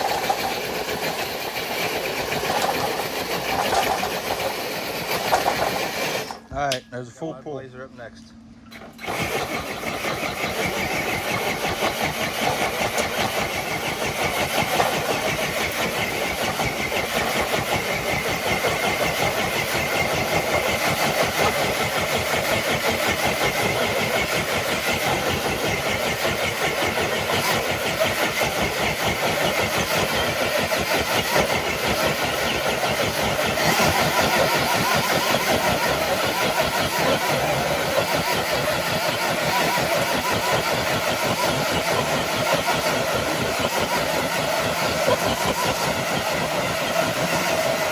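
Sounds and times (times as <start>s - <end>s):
rc truck motor whirring: 0.0s - 6.5s, 8.7s - 47.9s.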